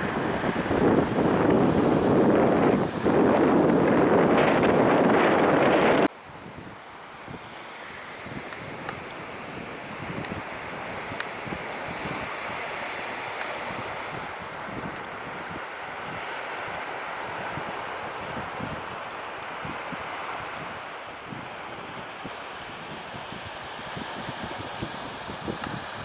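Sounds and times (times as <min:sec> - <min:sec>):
surf breaking on beach: 0:00.0 - 0:06.1, 0:06.9 - 0:26.0
wind buffeting microphone: 0:00.0 - 0:07.5, 0:08.2 - 0:26.0.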